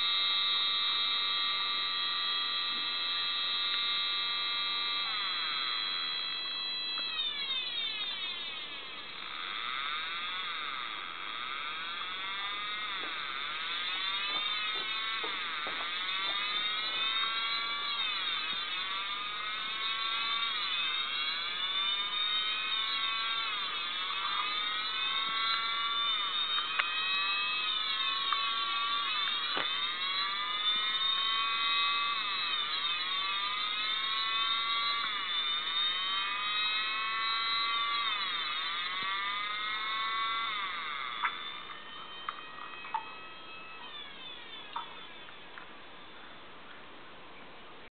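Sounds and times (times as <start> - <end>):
siren wailing: 0.0 - 46.2.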